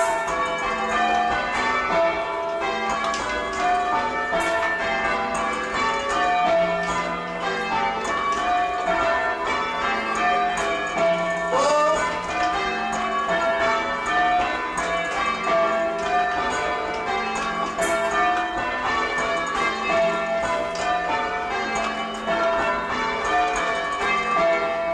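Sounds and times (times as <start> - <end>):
church bells change ringing: 0.0 - 24.9.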